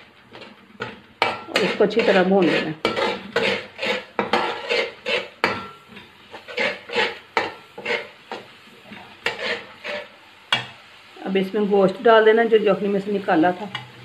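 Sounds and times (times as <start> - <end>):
metal spatula scraping pan: 0.0 - 10.9, 12.8 - 14.0
spices frying in oil: 0.0 - 14.0.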